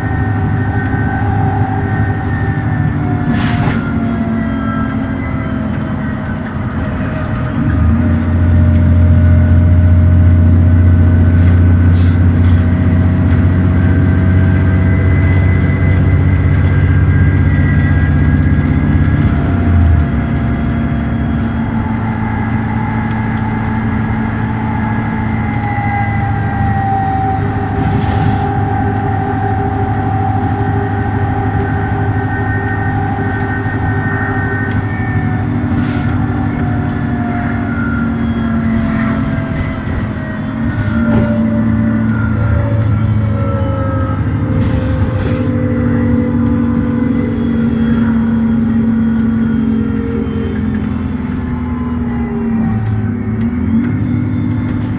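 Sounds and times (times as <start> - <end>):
bus diesel engine: 0.0 - 54.9
driveline whine: 0.0 - 54.9.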